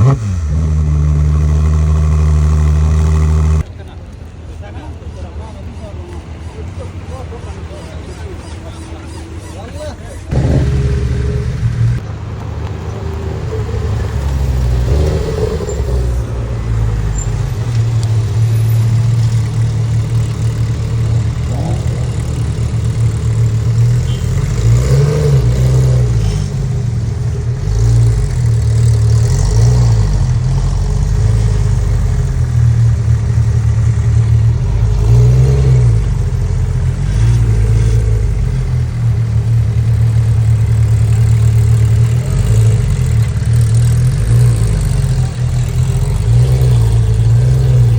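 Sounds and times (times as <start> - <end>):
engine revving: 0.0 - 3.7, 6.8 - 47.9
car engines idling: 0.0 - 47.9.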